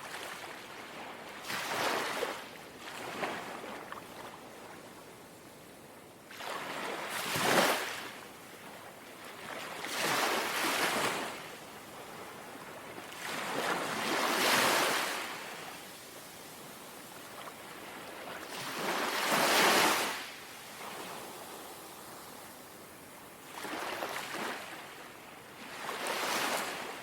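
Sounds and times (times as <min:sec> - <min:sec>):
gentle sea waves lapping: 0:00.0 - 0:05.7, 0:06.3 - 0:27.0.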